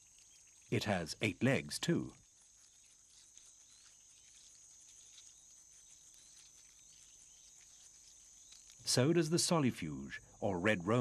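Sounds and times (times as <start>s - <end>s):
faint chirps and ticks: 0.0s - 11.0s
insect trill: 0.0s - 11.0s.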